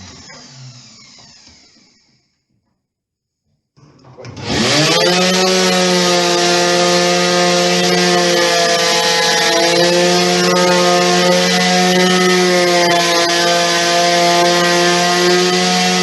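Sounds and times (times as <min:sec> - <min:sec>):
electric sander motor whine: 0:00.0 - 0:02.3, 0:04.4 - 0:16.0.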